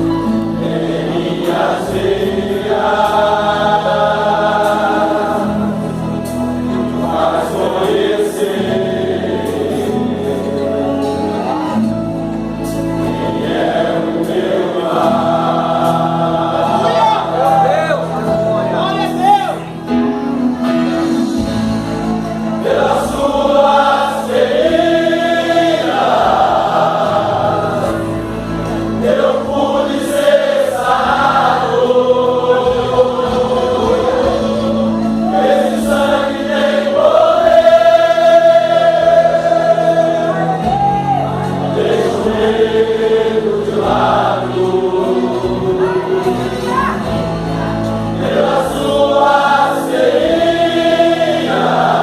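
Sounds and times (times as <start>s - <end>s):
instrumental accompaniment: 0.0s - 52.0s
men's choir singing a hymn: 0.0s - 52.0s.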